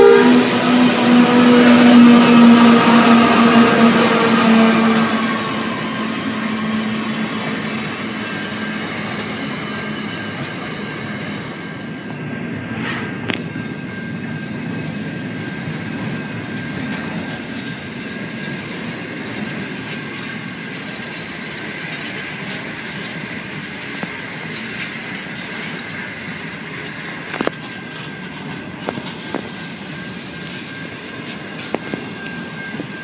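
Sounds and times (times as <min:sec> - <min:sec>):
locomotive engine: 0:00.0 - 0:33.0
steel wheels on rail: 0:00.0 - 0:33.0.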